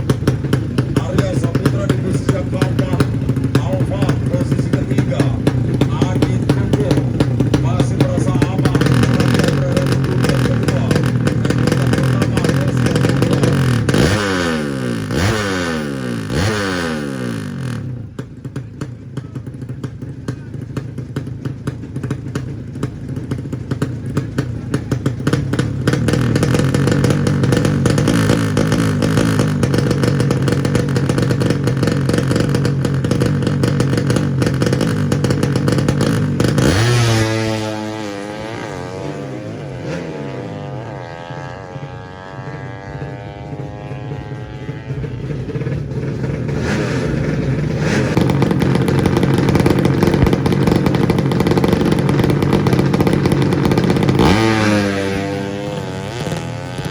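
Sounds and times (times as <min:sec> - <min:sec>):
motorcycle engines revving: 0:00.0 - 0:56.9.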